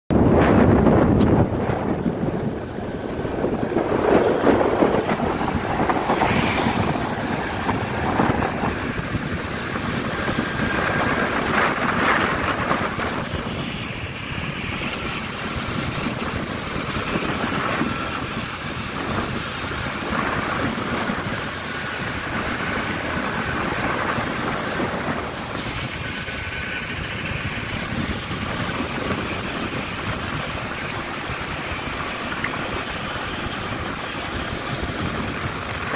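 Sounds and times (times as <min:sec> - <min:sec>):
motorcycle running at road speed: 0:00.0 - 0:35.9
wind rushing over microphone: 0:00.1 - 0:35.9.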